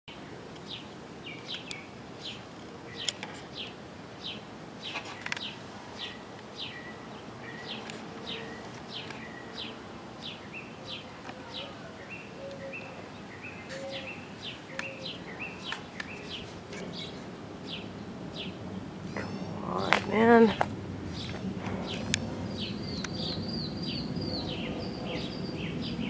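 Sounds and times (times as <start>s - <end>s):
bird chirping: 0.1s - 26.0s
steady outdoor hiss: 0.1s - 26.0s.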